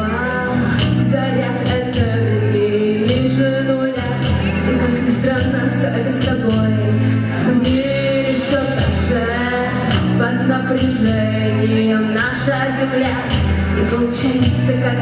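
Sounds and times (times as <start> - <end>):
bass line: 0.0 - 15.0
person singing: 0.0 - 15.0
steady drum beat: 0.0 - 15.0.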